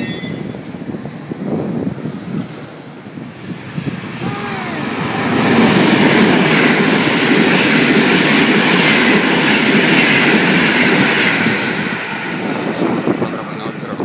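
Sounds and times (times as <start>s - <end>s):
passenger train passing: 0.0s - 14.0s.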